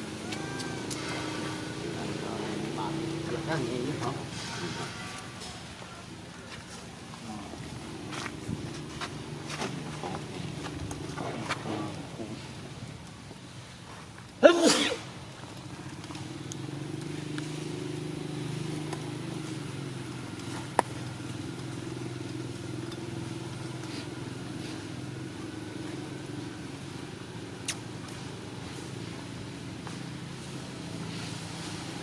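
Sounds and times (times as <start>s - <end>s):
low motor hum: 0.0s - 13.8s, 15.2s - 32.0s.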